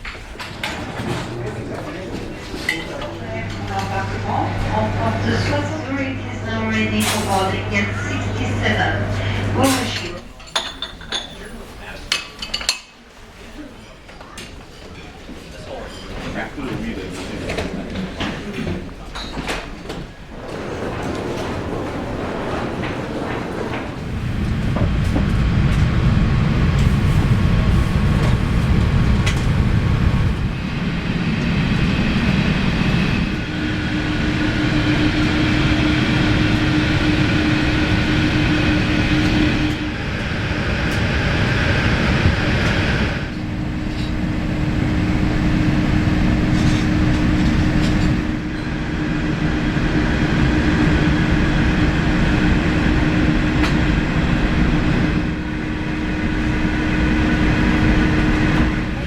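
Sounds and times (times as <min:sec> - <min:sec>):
aircraft cabin air conditioning rumble: 0:00.0 - 0:10.6, 0:16.4 - 0:59.0
constant hum: 0:00.4 - 0:12.3, 0:16.3 - 0:59.0.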